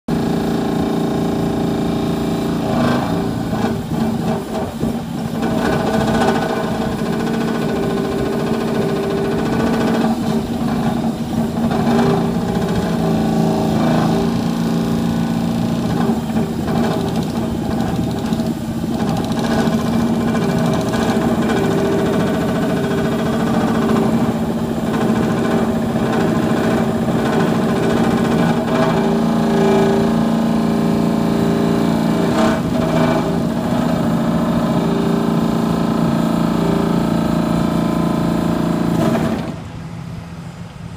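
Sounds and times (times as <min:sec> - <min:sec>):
diesel engine: 0:00.0 - 0:40.9
vibratory pile driver drone: 0:00.1 - 0:40.9.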